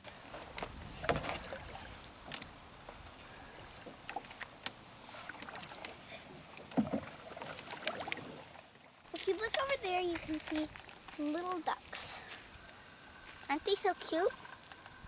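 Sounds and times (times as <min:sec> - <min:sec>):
paddle splashing water: 0:00.0 - 0:15.0.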